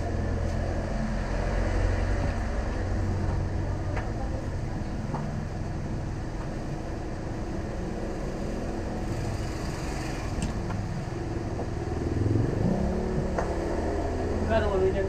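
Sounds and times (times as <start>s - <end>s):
engine rising in pitch: 0.0s - 6.1s, 6.9s - 15.0s
road traffic engines humming: 0.0s - 15.0s.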